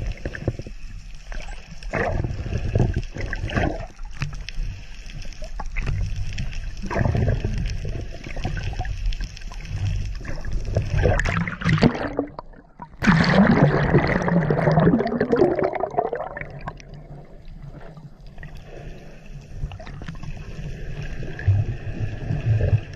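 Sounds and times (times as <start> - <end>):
rush of bubbling and splashing: 0.0 - 22.9
underwater bubbling: 0.0 - 22.9.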